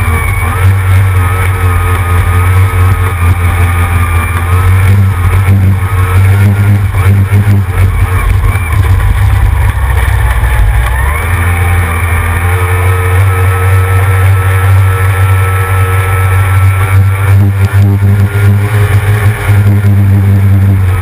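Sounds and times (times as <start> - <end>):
outboard racing engine running: 0.0 - 21.0.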